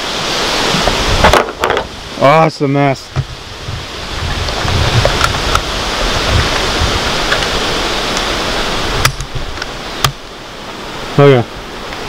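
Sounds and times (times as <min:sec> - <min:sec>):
wind buffeting microphone: 0:00.4 - 0:02.2, 0:02.8 - 0:11.9.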